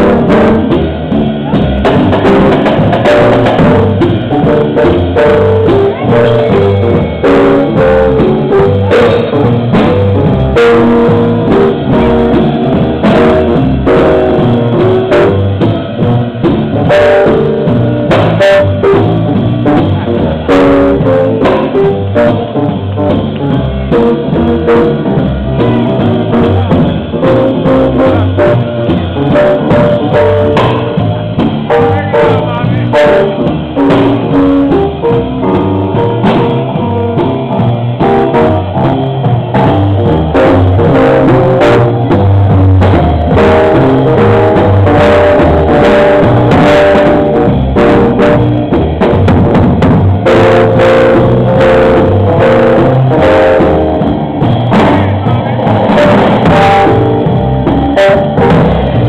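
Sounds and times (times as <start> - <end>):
upbeat jazzy music: 0.0 - 59.0.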